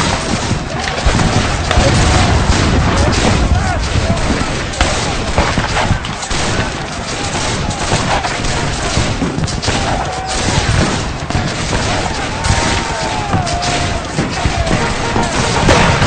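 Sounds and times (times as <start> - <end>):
dense continuous gunfire: 0.0 - 16.0.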